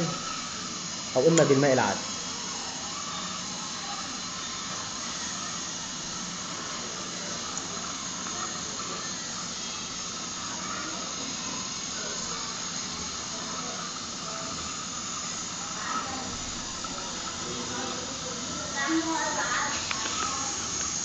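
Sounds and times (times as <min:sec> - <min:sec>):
water boiling in pot: 0:00.0 - 0:21.0.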